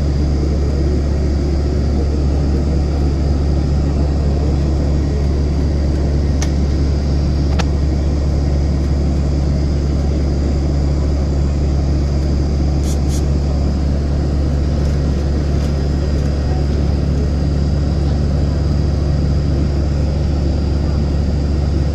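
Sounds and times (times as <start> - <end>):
jet engines and airflow rumbling: 0.0 - 21.9.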